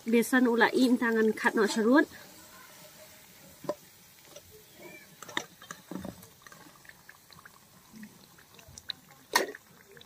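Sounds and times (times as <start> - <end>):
oil popping and crackling: 0.0 - 10.0.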